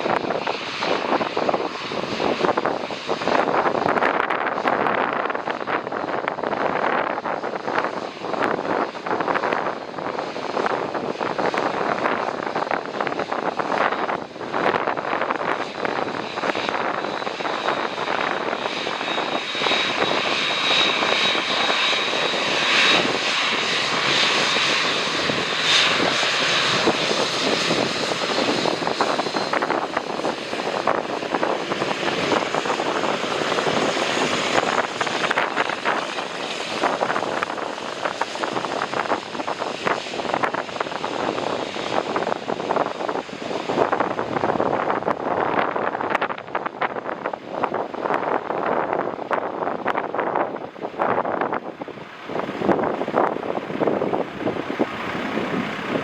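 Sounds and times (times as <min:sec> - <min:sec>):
jet airliner engines whining: 0:00.0 - 0:56.0.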